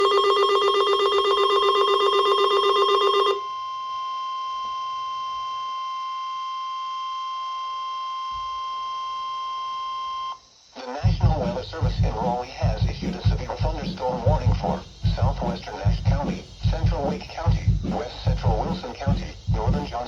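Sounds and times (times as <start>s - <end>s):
steady high alarm tone: 0.0s - 20.0s.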